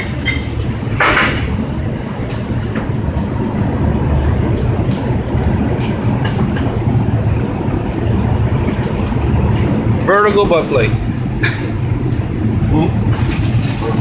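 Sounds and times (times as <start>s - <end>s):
welding arc crackling: 0.0s - 14.0s
welding machine hum: 0.0s - 14.0s.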